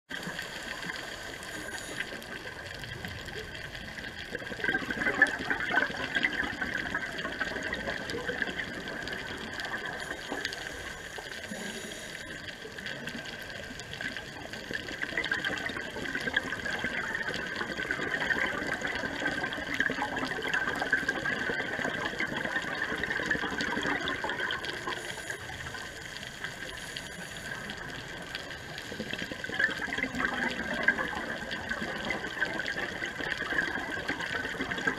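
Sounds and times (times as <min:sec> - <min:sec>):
underwater bubbling rush: 0:00.1 - 0:34.9.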